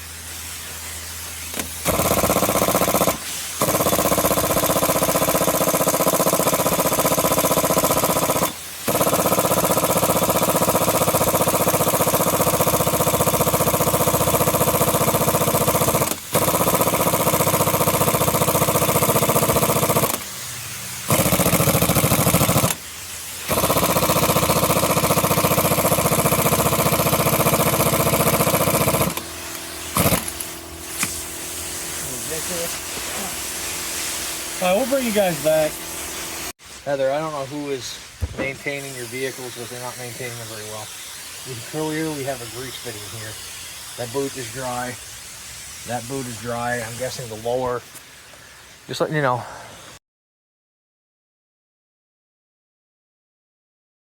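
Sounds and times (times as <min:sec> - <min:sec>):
pneumatic air hammer hammering: 0:00.0 - 0:36.6, 0:38.1 - 0:48.2.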